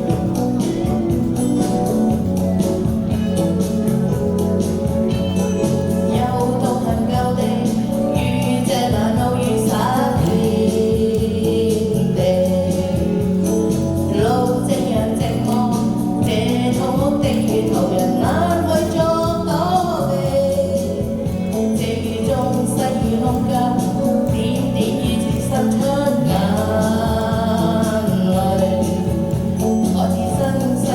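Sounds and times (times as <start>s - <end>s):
bass and keyboard backing: 0.0s - 30.9s
pop ballad singing: 0.0s - 30.9s.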